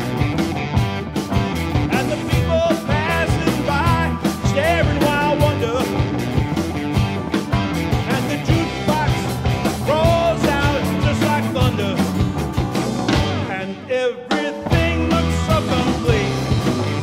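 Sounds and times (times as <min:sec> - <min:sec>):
lead guitar line bending: 0:00.0 - 0:17.0
rock band playing live: 0:00.0 - 0:17.0.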